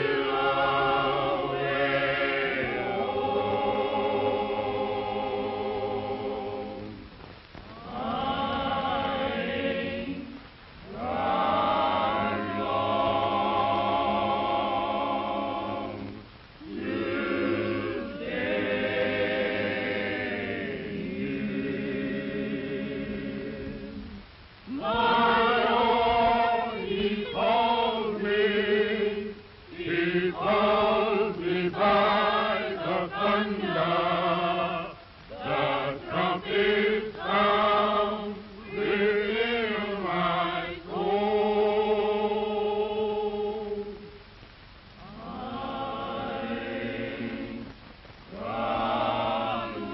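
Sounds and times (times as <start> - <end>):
choir singing slowly: 0.0 - 49.9.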